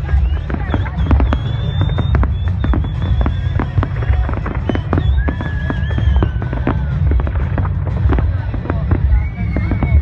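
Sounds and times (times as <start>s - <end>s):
fireworks bangs and crackles: 0.0s - 10.0s
high whistling fireworks: 0.0s - 10.0s.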